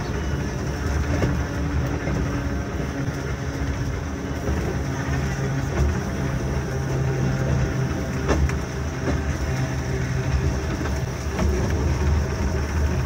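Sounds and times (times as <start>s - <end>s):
wheels rumbling on rail: 0.0s - 13.0s
wind buffeting microphone: 0.0s - 13.0s.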